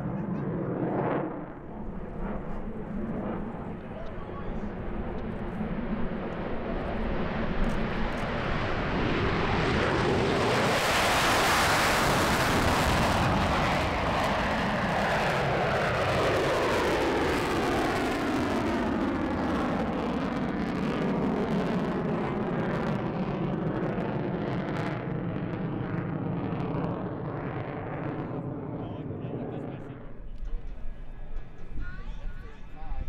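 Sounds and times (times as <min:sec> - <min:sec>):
jet taking off roaring: 0:00.0 - 0:32.8.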